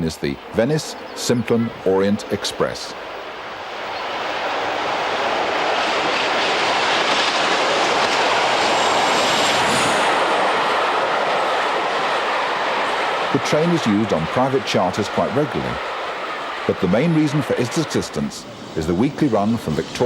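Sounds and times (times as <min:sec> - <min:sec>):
train passing on rails: 0:00.0 - 0:20.0.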